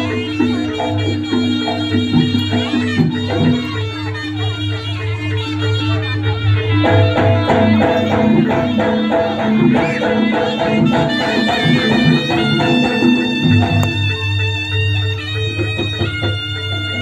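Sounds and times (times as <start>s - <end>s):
pitched percussion notes: 0.0s - 17.0s
reedy wind instrument melody: 0.0s - 17.0s.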